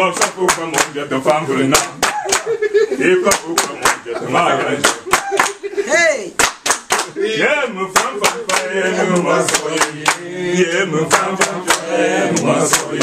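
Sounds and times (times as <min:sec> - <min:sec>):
rhythmic hand clapping: 0:00.0 - 0:05.7, 0:06.3 - 0:13.0
voices singing together: 0:00.0 - 0:06.0, 0:07.0 - 0:13.0.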